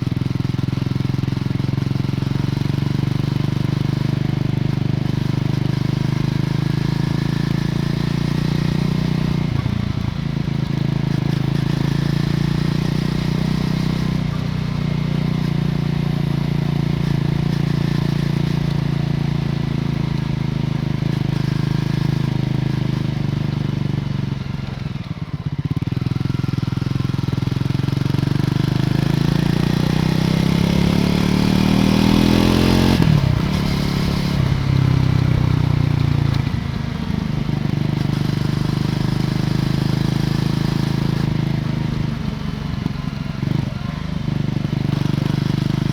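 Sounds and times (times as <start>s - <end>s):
motorcycle engine riding: 0.0s - 45.9s.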